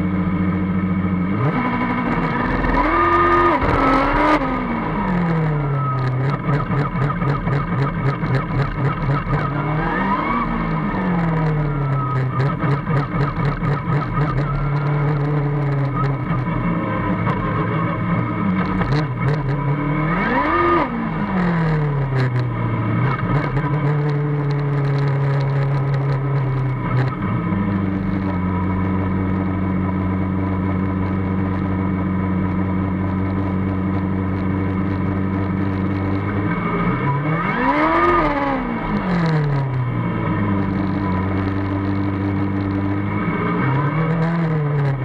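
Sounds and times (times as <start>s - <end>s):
race car engine running: 0.0s - 45.0s.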